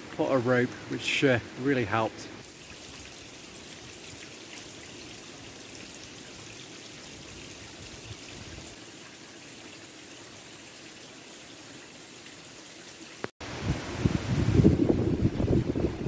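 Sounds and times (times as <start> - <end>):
steady water noise: 0.0 - 16.0.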